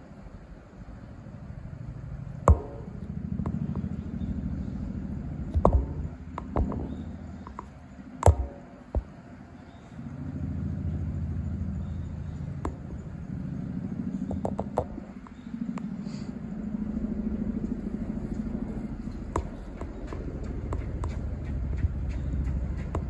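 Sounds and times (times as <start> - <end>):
vehicle engine hum: 0.0 - 23.0.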